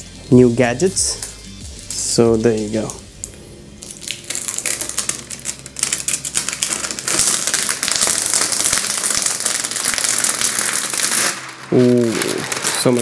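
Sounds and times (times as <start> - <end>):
plastic film peeling crackle: 1.1 - 13.0.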